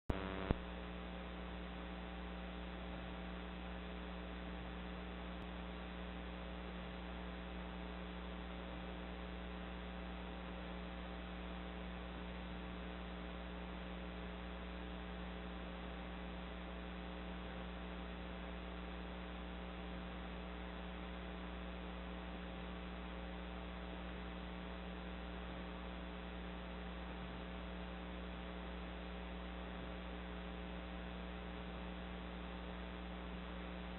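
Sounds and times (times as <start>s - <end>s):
electrical mains hum: 0.1s - 33.9s.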